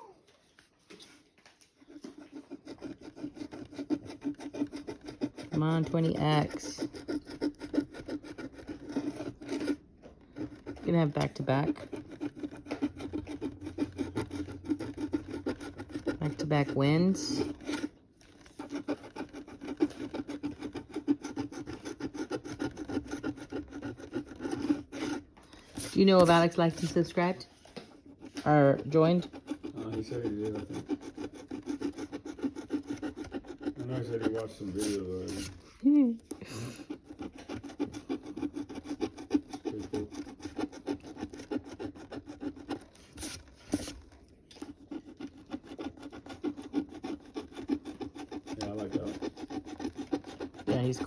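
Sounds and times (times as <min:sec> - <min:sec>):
lottery ticket being scratched: 0:01.9 - 0:51.0.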